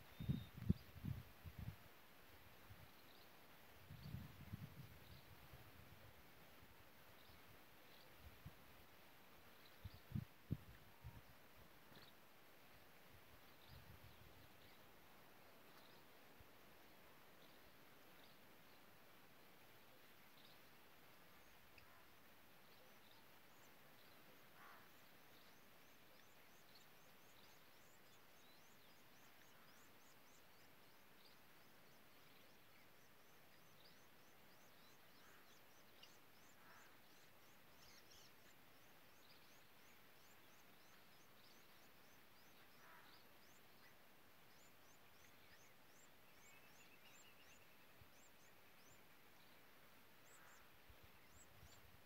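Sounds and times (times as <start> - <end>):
faint outdoor hiss: 0.0 - 52.0.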